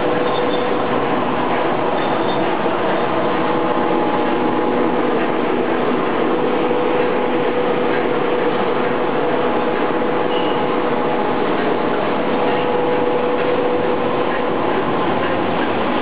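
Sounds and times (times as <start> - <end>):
constant hum: 0.0 - 16.0
extrusion line motor running: 0.0 - 16.0.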